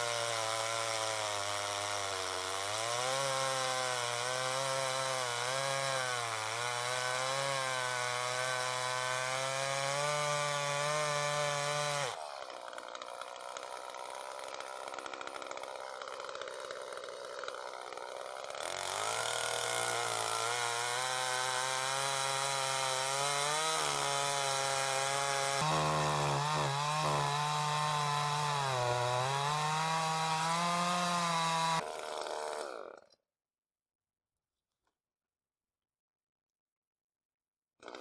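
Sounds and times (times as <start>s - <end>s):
chainsaw cutting log: 0.0s - 33.2s, 37.8s - 38.0s.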